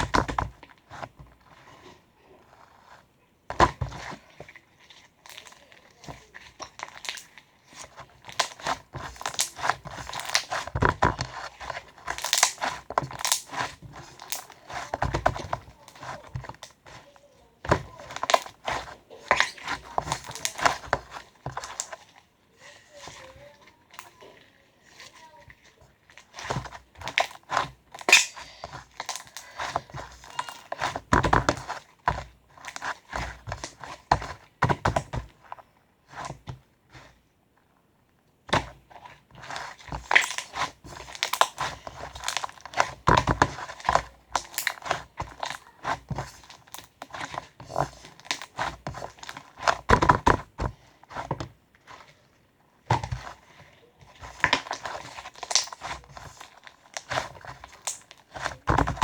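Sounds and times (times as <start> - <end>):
crinkling rustles: 0.0 - 59.0.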